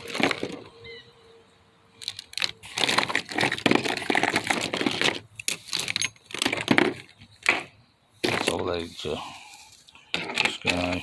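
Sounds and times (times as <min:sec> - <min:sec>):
packaging rustling and crinkling: 0:00.0 - 0:00.7, 0:02.0 - 0:11.0.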